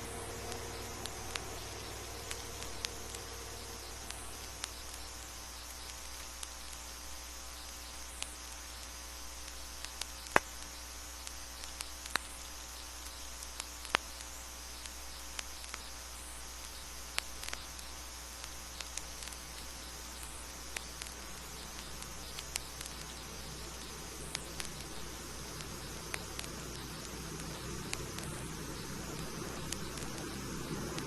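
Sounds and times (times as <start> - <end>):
vinyl clicks and pops: 0.0 - 31.0
vinyl record hiss and hum: 0.0 - 31.0.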